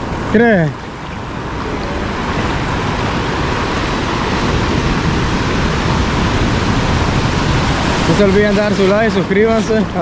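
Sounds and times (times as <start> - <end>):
ocean surf rushing hiss: 0.0 - 10.0.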